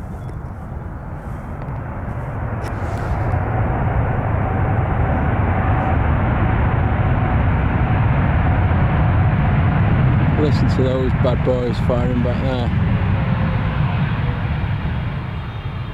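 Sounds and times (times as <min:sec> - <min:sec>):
faint whine: 0:00.0 - 0:15.9
jet engines reverse thrust: 0:00.0 - 0:15.9.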